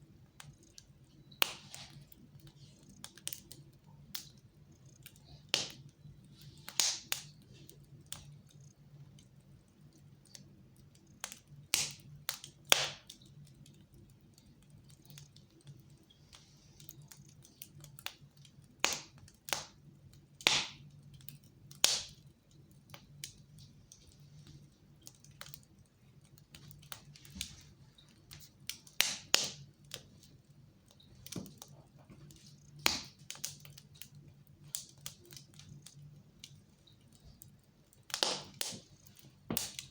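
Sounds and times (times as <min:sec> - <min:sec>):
faint low hum: 0:00.0 - 0:39.9
wood fire crackling: 0:00.0 - 0:39.9.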